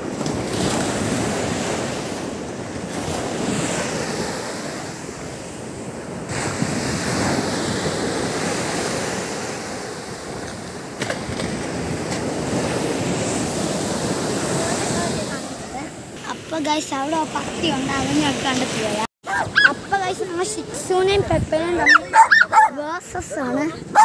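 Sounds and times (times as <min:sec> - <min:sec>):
sea surf washing onto beach: 0:00.0 - 0:24.0
wind buffeting microphone: 0:00.0 - 0:24.0.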